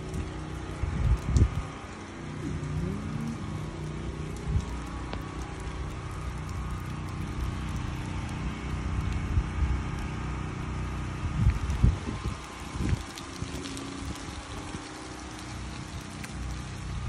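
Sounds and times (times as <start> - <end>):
strong wind buffeting microphone: 0.0 - 8.0, 11.1 - 17.0
steady low hum: 0.0 - 17.0.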